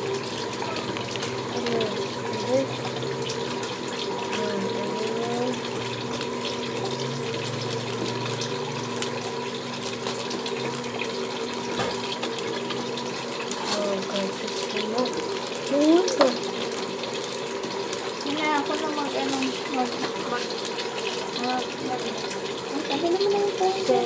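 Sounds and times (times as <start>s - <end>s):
eggs sizzling in hot oil: 0.0s - 24.0s.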